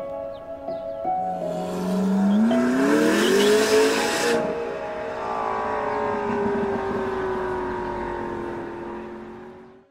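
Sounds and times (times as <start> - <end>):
car engine driving off: 1.2 - 9.9.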